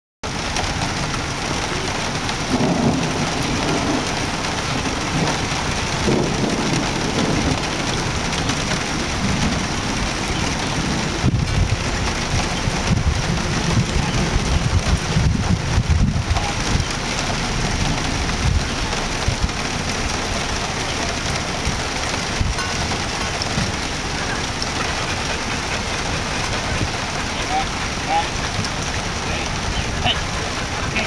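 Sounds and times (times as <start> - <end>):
low thunder rumble: 0.3 - 31.0
steady rain hissing: 0.3 - 31.0.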